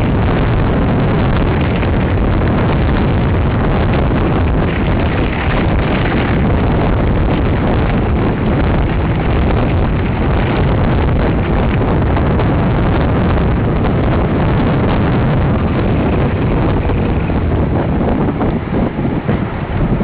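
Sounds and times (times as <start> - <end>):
bike rumbling on rough trail: 0.0 - 20.0
wind buffeting microphone: 0.0 - 20.0.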